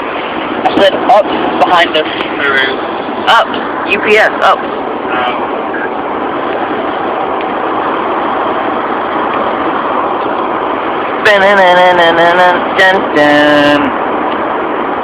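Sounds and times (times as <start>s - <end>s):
truck road and engine noise: 0.0s - 15.0s.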